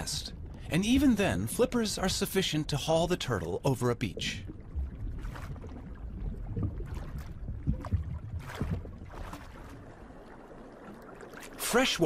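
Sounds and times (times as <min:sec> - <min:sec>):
water sloshing and swishing: 0:00.0 - 0:12.0.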